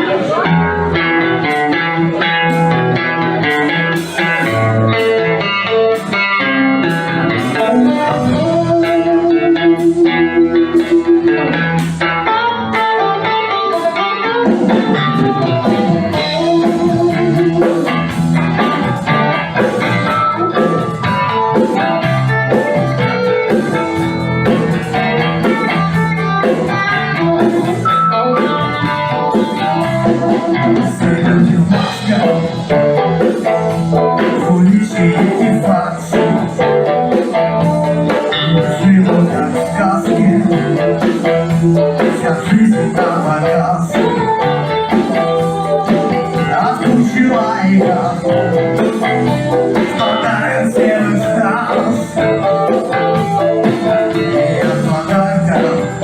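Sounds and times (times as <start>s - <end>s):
steady drum beat: 0.0s - 12.9s, 13.5s - 56.0s
electric guitar: 0.0s - 56.0s.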